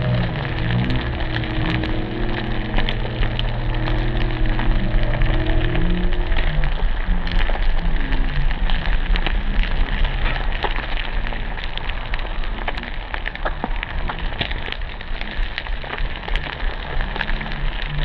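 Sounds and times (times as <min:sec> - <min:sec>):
crackling spatter pops: 0:00.0 - 0:18.0.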